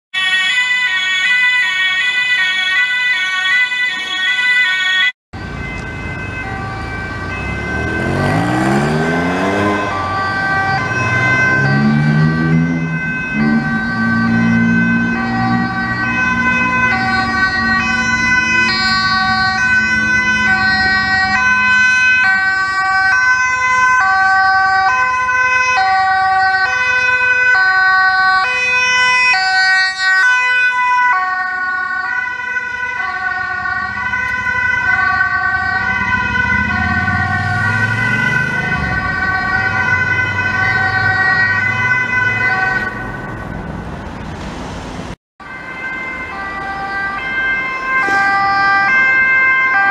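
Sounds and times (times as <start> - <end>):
ambulance two-tone sirens: 0.1 - 44.3, 45.1 - 49.9.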